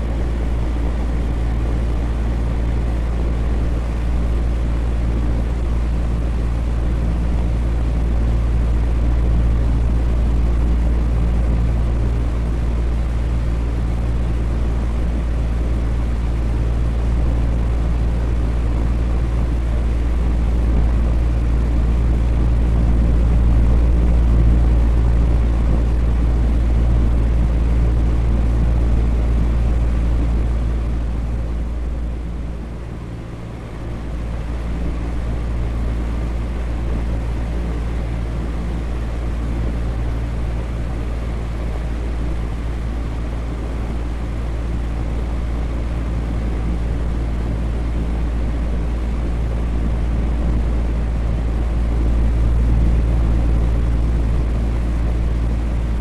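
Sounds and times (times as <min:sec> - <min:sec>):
electric fan whooshing: 0:00.0 - 0:56.0
fan motor hum: 0:00.0 - 0:56.0.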